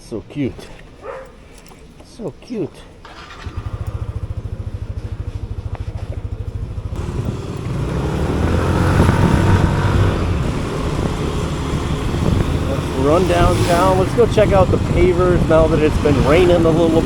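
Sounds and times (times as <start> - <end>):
vehicle engine starting and revving: 3.0 - 17.0.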